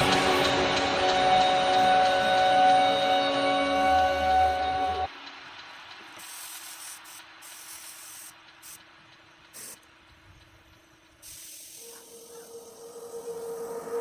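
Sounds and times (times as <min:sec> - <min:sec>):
spray paint hissing: 0:00.0 - 0:14.0.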